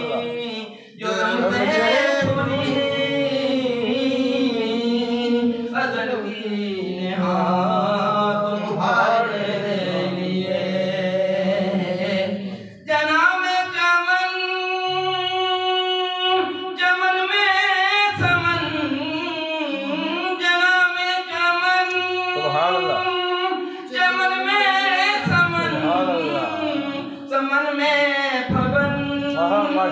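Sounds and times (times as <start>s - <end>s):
man singing devotional song: 0.0s - 29.9s.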